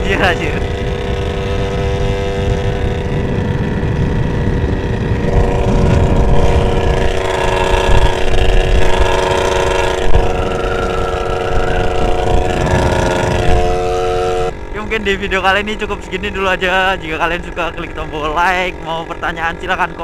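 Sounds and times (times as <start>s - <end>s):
wind rumble on microphone: 0.0s - 17.8s
motorcycle engine cruising: 0.0s - 20.0s.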